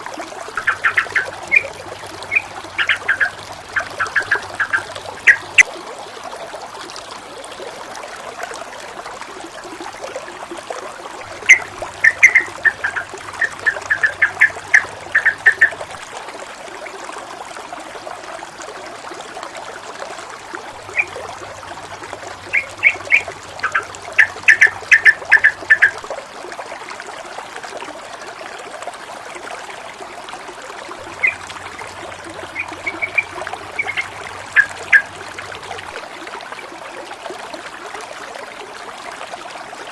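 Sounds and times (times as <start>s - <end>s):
water running and gurgling: 0.0s - 39.9s.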